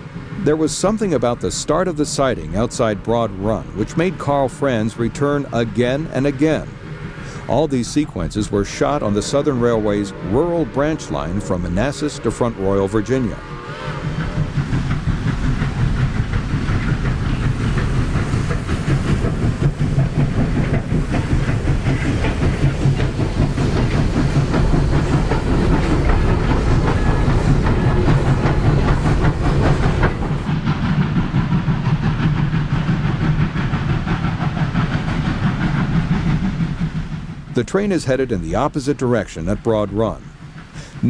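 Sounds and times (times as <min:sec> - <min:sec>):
steam hiss: 0:00.0 - 0:41.0
steam locomotive exhaust beat: 0:00.0 - 0:41.0
train cars clattering on rails: 0:00.0 - 0:41.0.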